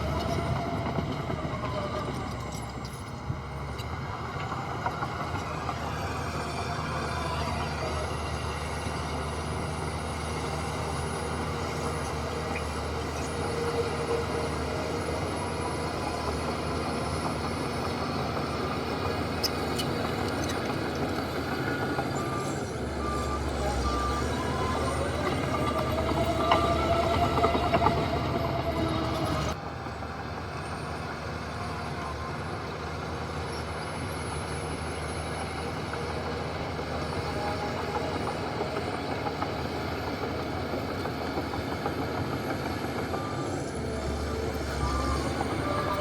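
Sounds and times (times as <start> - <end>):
heavy machinery engine running: 0.0 - 46.0.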